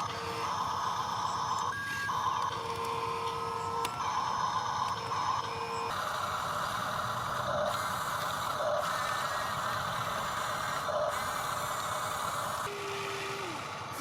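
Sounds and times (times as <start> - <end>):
electric gear motors whining: 0.0 - 14.0.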